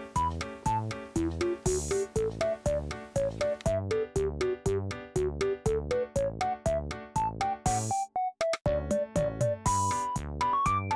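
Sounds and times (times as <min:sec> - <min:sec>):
electronic synthesizer music with beat: 0:00.1 - 0:10.9.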